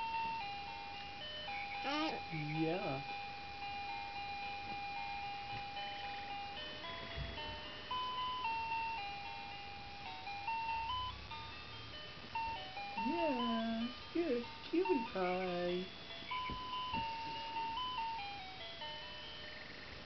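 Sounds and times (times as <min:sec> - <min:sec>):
electronic lullaby melody: 0:00.0 - 0:19.9.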